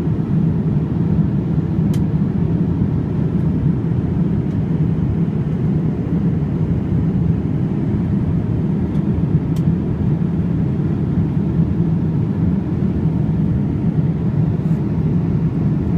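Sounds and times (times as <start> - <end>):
airliner cabin rumble: 0.0 - 15.9.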